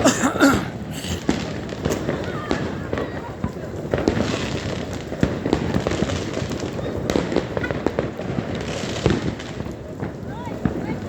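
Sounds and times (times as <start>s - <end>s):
fireworks bangs and crackles: 0.0s - 11.0s
fireworks rumble: 0.0s - 11.0s.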